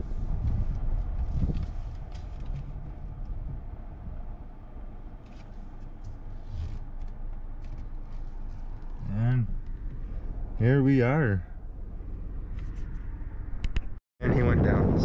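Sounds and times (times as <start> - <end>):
car engine and tyres rumbling: 0.0 - 14.8.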